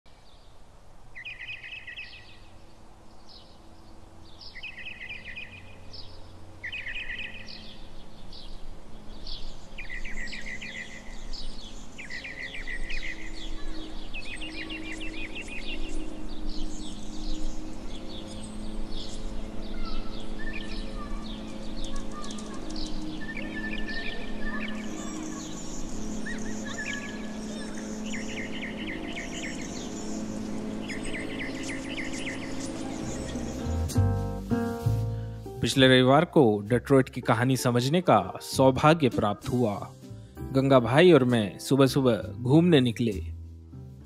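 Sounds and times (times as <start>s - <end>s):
songbirds calling: 0.1s - 43.4s.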